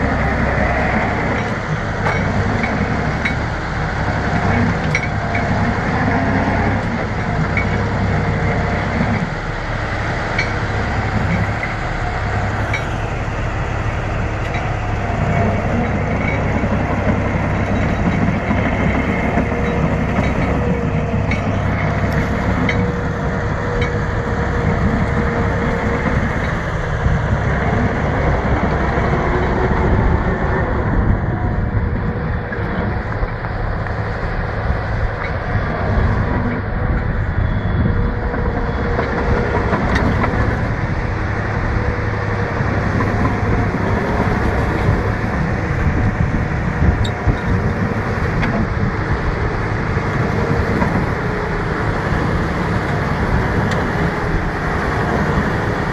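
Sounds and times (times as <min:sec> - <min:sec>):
bulldozer engine rumble: 0:00.0 - 0:55.9.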